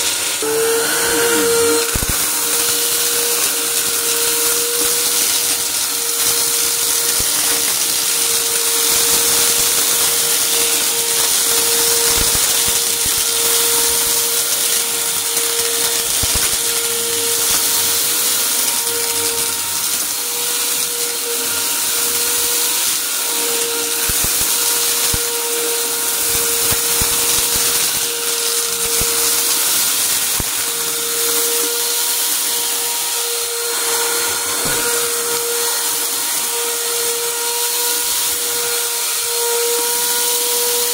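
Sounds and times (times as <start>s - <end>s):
debris crackling in vacuum: 0.0s - 39.0s
vacuum cleaner running: 0.0s - 40.9s.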